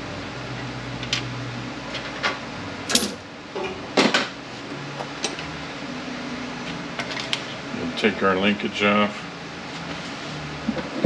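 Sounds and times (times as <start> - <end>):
steady fan hum: 0.0 - 11.0.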